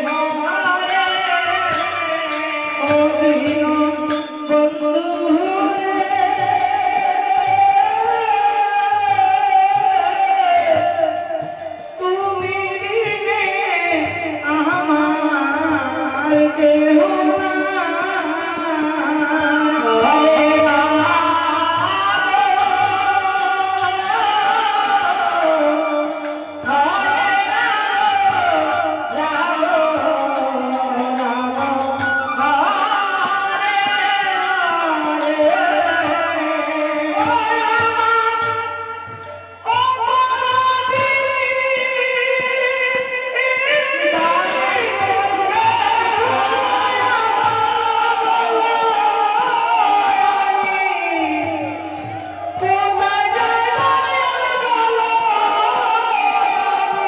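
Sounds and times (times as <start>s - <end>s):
drum accompaniment: 0.0s - 57.0s
woman singing devotional song: 0.0s - 57.0s.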